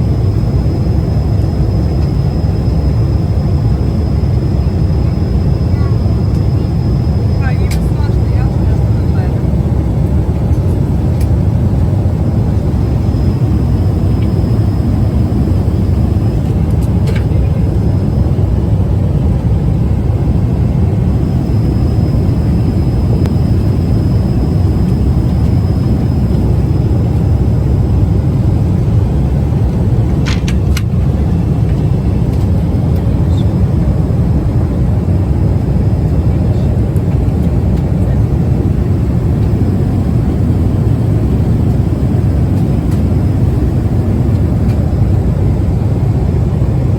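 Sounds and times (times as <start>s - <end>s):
jet airliner cabin rumble: 0.0s - 46.9s.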